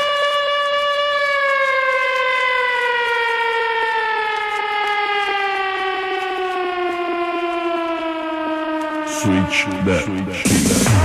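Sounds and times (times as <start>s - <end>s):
air raid siren falling tone: 0.0s - 11.0s.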